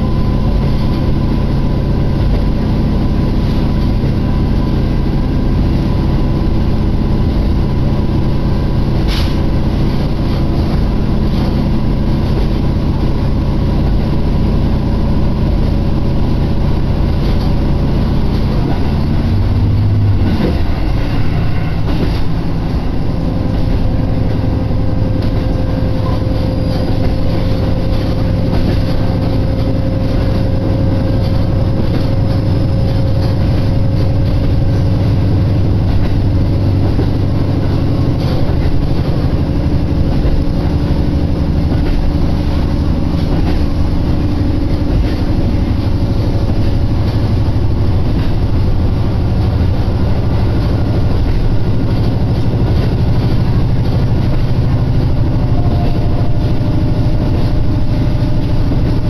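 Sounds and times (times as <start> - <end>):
diesel railcar engine drone: 0.0 - 59.0
rail noise: 0.0 - 59.0.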